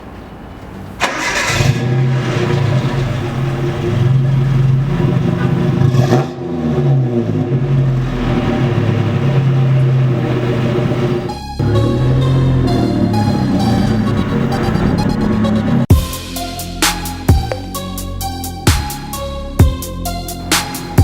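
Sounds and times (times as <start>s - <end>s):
truck engine starting and running: 0.1s - 21.0s.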